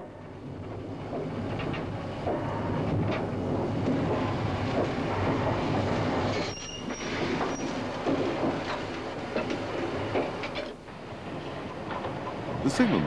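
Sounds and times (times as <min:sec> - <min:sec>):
steam engine running on track: 0:00.0 - 0:13.0.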